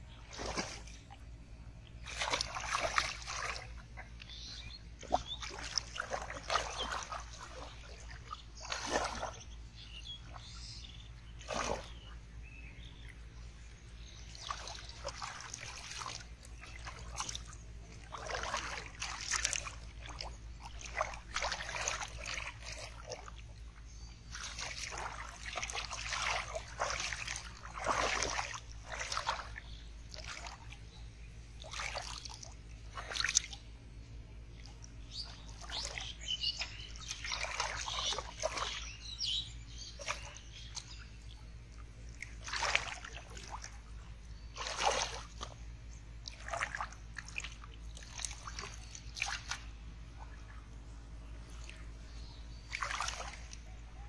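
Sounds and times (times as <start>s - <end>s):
hands splashing in shallow water: 0.2s - 1.2s, 1.9s - 4.3s, 4.9s - 9.4s, 11.4s - 12.0s, 14.3s - 23.5s, 24.2s - 30.9s, 31.6s - 33.7s, 34.6s - 50.8s, 52.6s - 53.8s.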